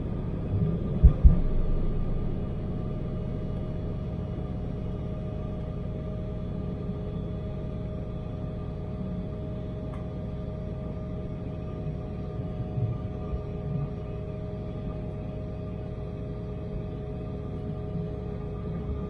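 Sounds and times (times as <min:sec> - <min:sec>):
jet engine drone and whine: 0:00.0 - 0:19.0.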